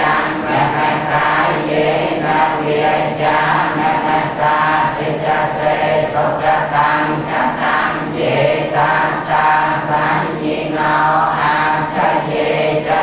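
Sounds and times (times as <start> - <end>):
group chanting in unison: 0.0 - 13.0.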